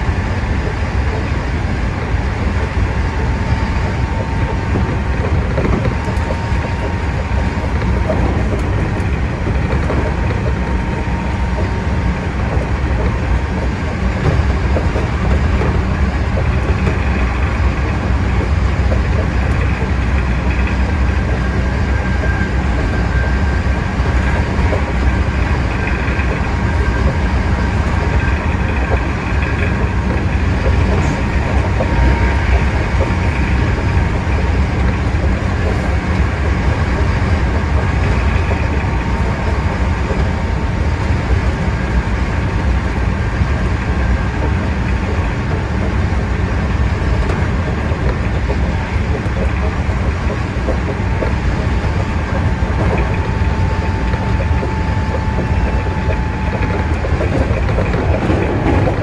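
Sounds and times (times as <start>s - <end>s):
faint train whine: 0.0s - 59.0s
train wheels rumbling on rail: 0.0s - 59.0s.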